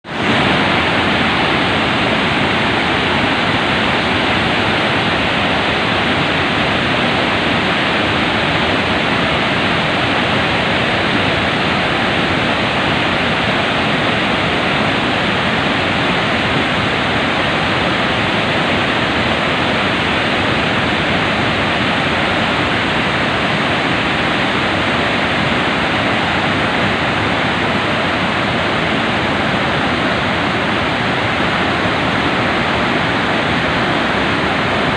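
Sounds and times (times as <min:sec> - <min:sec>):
waterfall rushing and splashing: 0:00.0 - 0:34.9.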